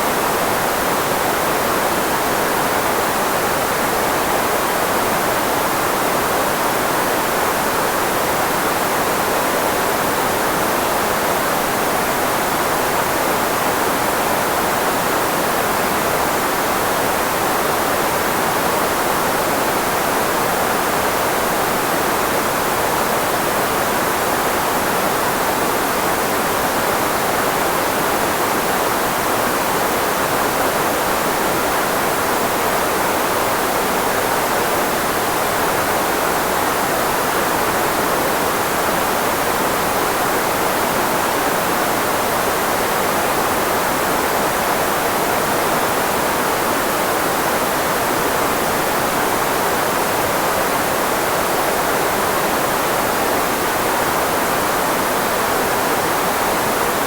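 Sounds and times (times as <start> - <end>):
filtered white noise hiss: 0.0 - 57.0.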